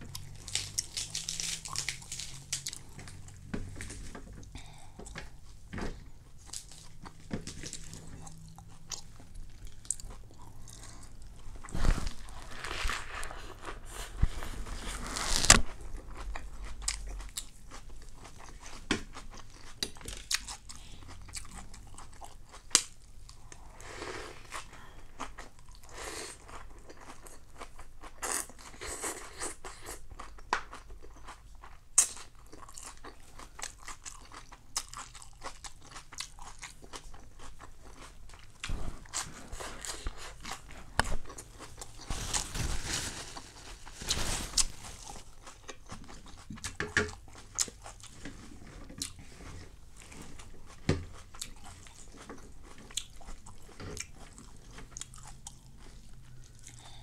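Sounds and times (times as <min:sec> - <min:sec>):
crispy food crunching: 0:00.0 - 0:57.0.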